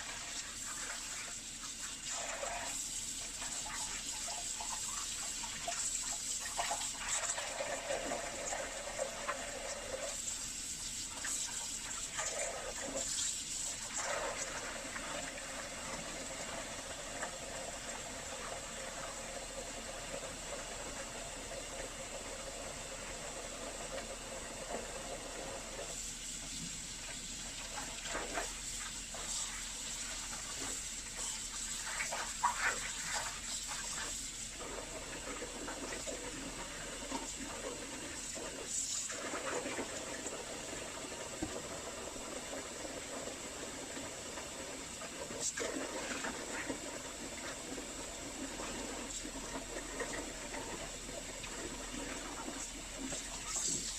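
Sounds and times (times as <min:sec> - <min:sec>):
filters being rinsed: 0:00.0 - 0:53.9
running water splashing: 0:00.0 - 0:53.9.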